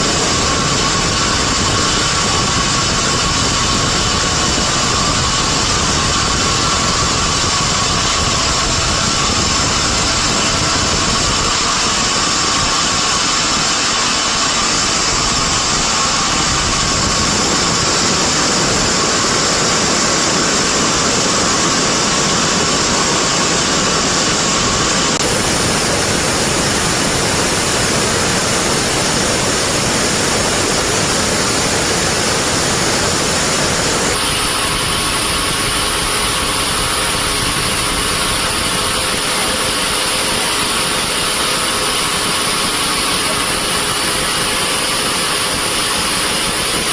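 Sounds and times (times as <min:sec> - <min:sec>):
band sawmill motor and blade: 0:00.0 - 0:46.9.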